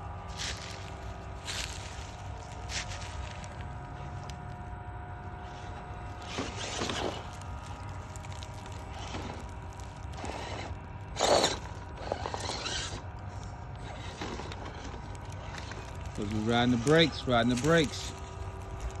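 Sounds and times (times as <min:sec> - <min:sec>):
small electric motor whine: 0:00.0 - 0:19.0
tyres crunching over dirt and rocks: 0:00.2 - 0:19.0.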